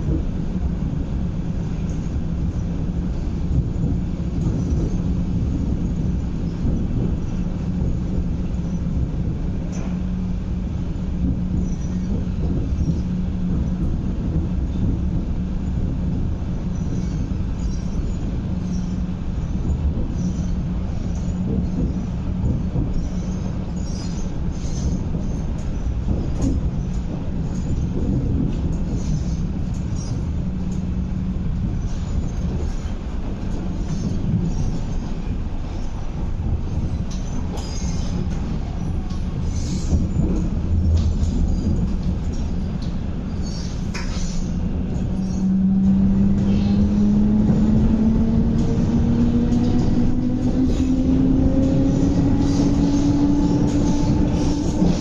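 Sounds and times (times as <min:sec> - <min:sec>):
electric train hum and rumble: 0:00.0 - 0:55.0.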